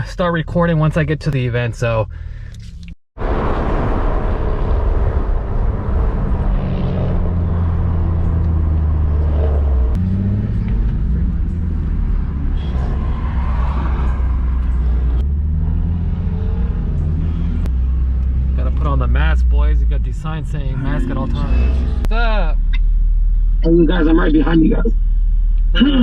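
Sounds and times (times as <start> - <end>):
car engine drone: 0.0 - 26.0
road rumble: 0.0 - 26.0.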